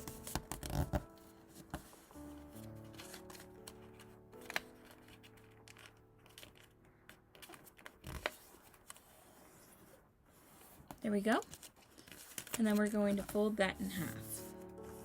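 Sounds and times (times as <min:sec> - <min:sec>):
cardstock folding: 0:00.0 - 0:15.0
soft background music: 0:00.0 - 0:15.0.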